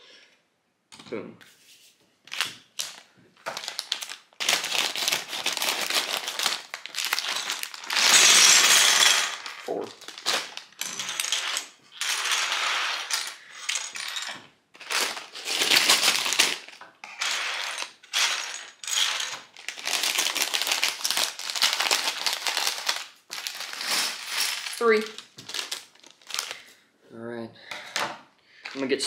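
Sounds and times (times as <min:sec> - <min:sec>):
plastic bag crinkling: 0:02.3 - 0:14.0, 0:14.8 - 0:26.7
plastic pieces rattling: 0:02.3 - 0:26.7.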